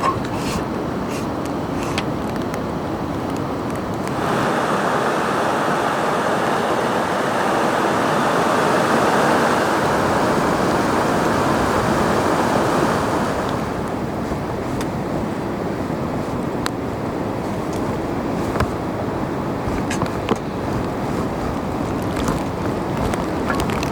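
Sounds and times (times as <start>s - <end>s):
river rushing: 0.0s - 23.9s.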